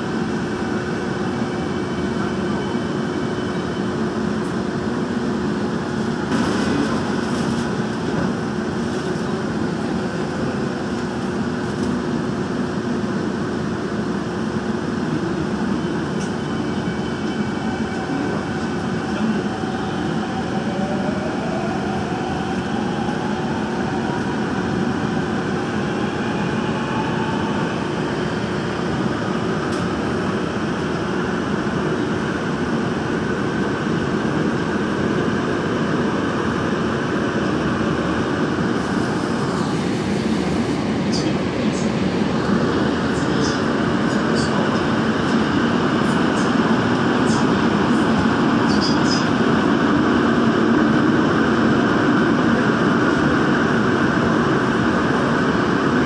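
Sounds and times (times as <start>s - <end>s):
rising train whine: 0.0s - 56.0s
train wheels rumbling on track: 0.0s - 56.0s.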